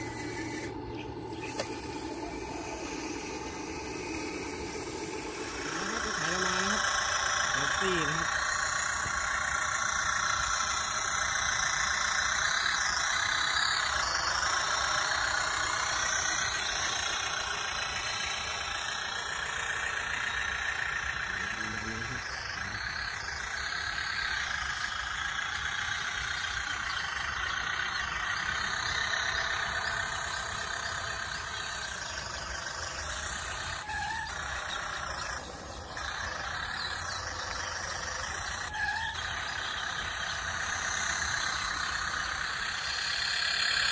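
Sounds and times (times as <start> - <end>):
toy tractor engine drone: 0.0 - 43.9.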